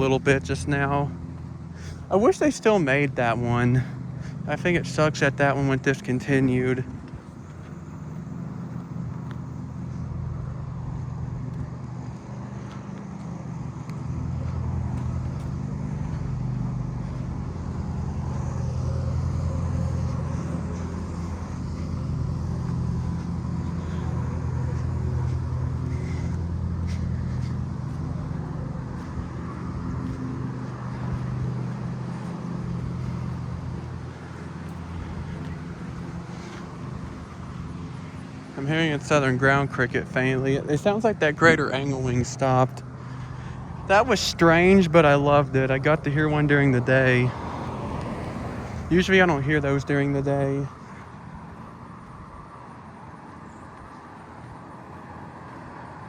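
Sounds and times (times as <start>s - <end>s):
lawn mower engine running: 0.0s - 53.2s.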